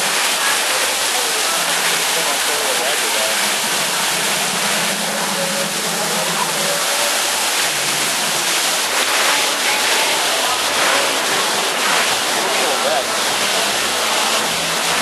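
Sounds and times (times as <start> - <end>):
faint crowd voices: 0.0 - 15.0
indoor waterfall rushing: 0.0 - 15.0.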